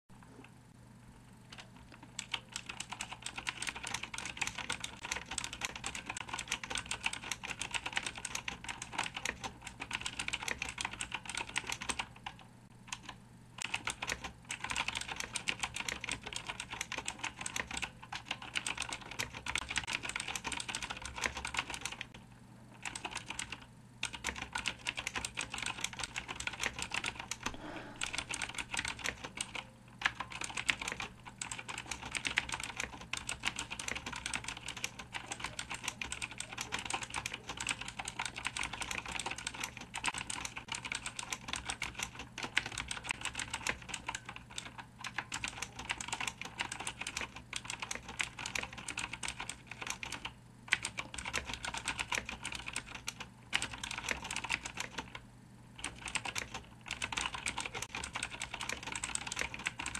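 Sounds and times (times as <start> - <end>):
fast typing on clicky keyboard: 1.5 - 55.2, 55.8 - 59.9.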